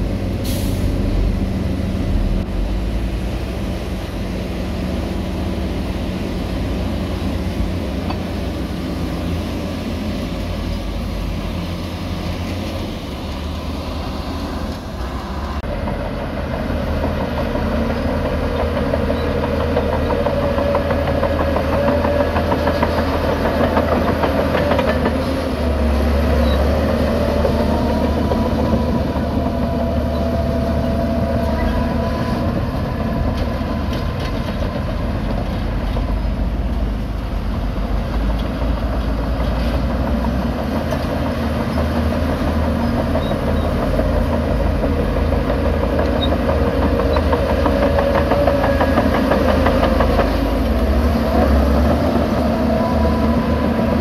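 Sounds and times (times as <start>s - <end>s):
bulldozer diesel engine under load: 0.0s - 54.0s
dump truck diesel engine: 0.0s - 54.0s
steel tracks rattling and clanking: 5.9s - 54.0s.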